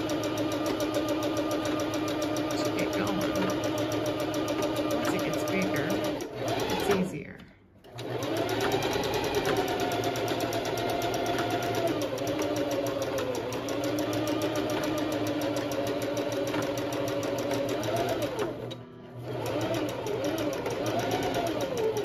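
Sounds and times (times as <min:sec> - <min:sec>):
sewing machine running: 0:00.0 - 0:22.0.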